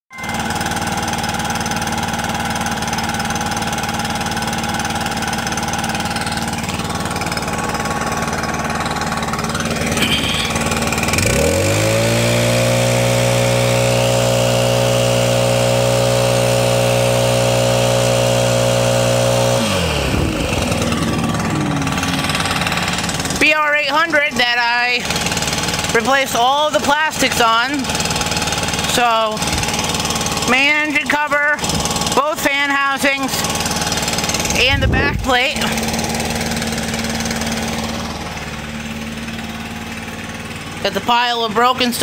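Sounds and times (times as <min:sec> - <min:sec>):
leaf blower engine idling and revving: 0:00.1 - 0:42.0.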